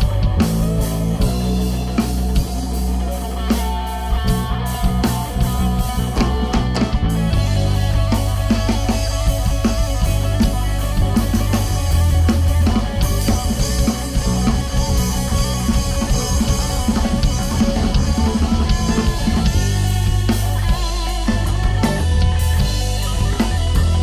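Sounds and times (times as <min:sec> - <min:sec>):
drum kit: 0:00.0 - 0:24.0
electric guitar: 0:00.0 - 0:24.0.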